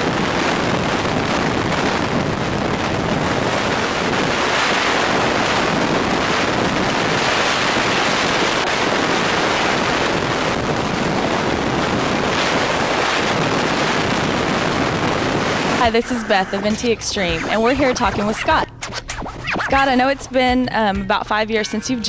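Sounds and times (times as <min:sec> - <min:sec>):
freefall wind rushing: 0:00.0 - 0:18.8.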